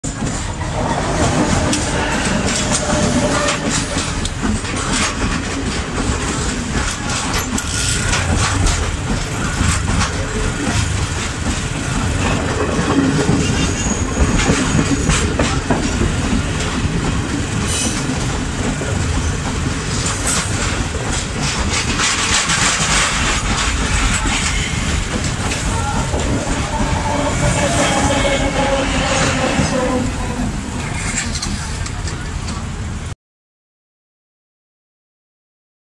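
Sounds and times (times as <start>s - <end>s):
wheels clacking over rail joints: 0.0s - 32.8s
train carriages rumbling: 0.0s - 33.2s.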